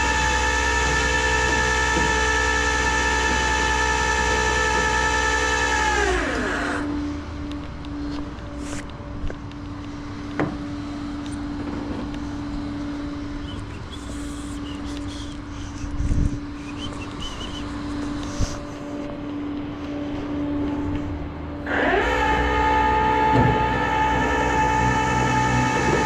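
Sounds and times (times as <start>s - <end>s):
road noise: 0.0s - 26.0s
truck engine hum: 0.0s - 26.0s.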